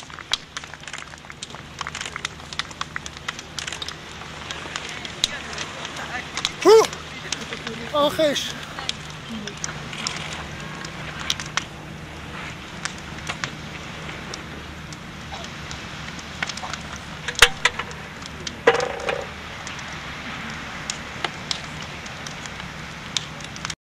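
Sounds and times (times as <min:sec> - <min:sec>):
open fire crackling and popping: 0:00.0 - 0:06.6, 0:07.3 - 0:18.6, 0:19.3 - 0:23.8.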